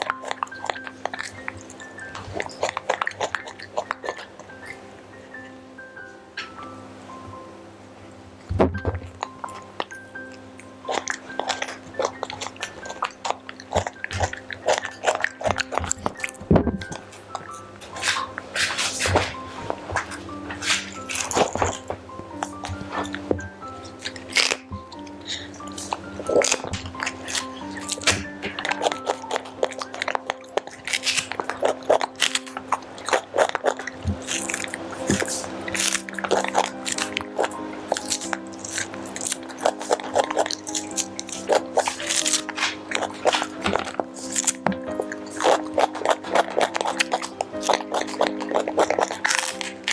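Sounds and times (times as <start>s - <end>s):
monkey chewing vegetables: 0.0s - 5.6s, 8.4s - 49.9s
soft background music: 0.0s - 49.9s.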